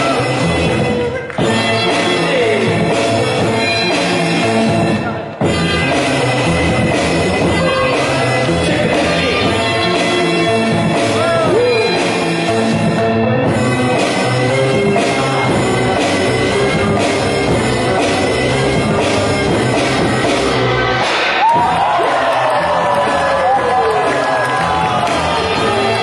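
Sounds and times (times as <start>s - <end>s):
loud music with drums: 0.0s - 26.0s.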